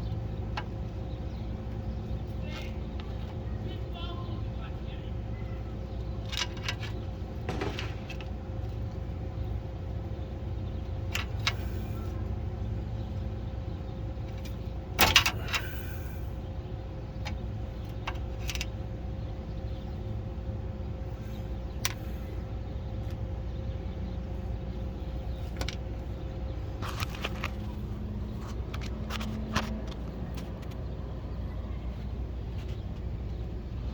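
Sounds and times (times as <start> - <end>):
engine humming: 0.0 - 33.9.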